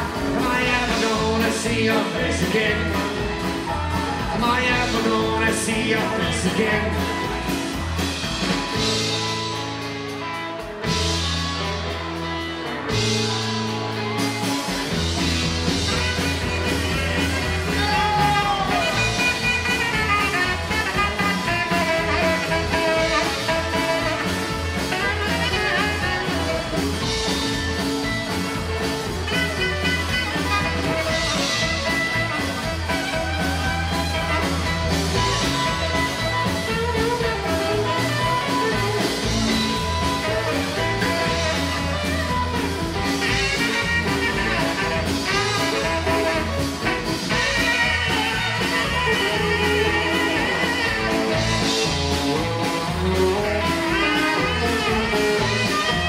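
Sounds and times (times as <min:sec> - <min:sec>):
drums: 0:00.0 - 0:56.0
electric guitar: 0:00.0 - 0:56.0
saxophone playing lead: 0:10.2 - 0:56.0.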